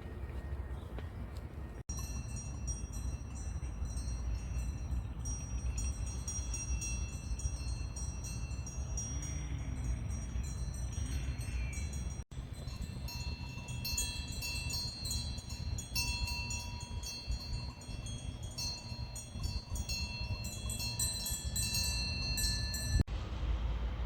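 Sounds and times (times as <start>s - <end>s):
small metal chimes tinkling: 1.9s - 23.1s.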